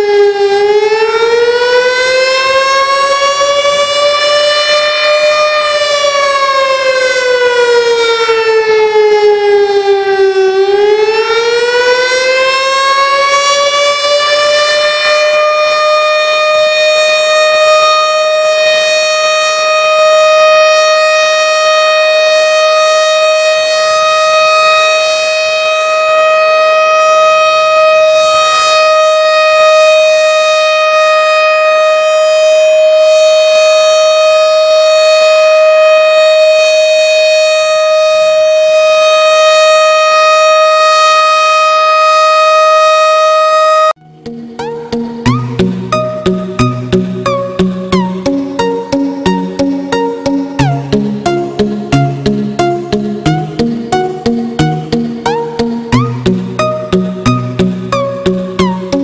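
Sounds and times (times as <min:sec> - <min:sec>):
warning siren wailing: 0:00.0 - 0:59.0.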